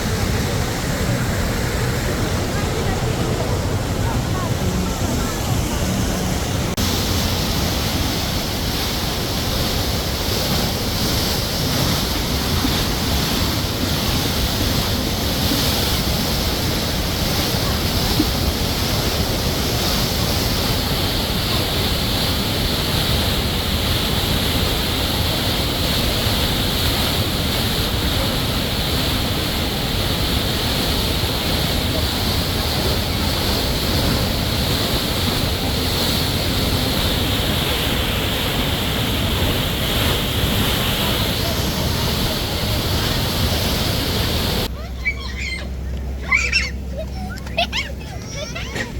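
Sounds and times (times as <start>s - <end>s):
spring water rushing and splashing: 0.0s - 48.9s.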